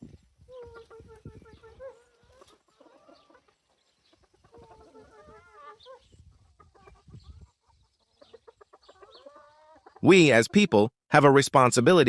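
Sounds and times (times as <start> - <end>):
hens clucking: 0.1 - 10.8.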